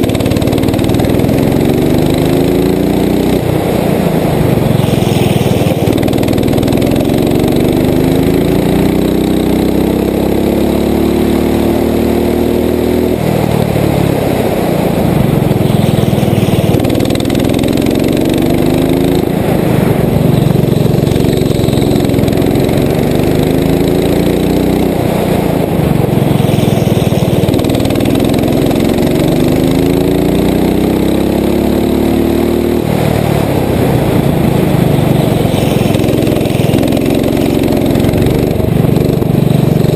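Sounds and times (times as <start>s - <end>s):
kart engine at full throttle: 0.0s - 39.9s.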